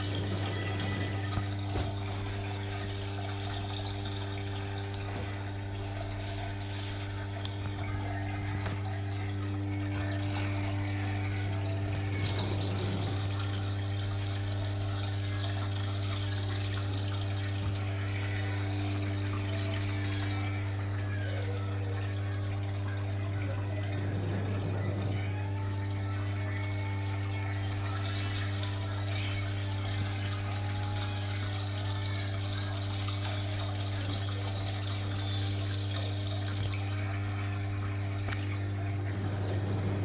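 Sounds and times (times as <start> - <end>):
steady electrical hum: 0.0 - 40.0
washing machine running water: 0.0 - 40.0.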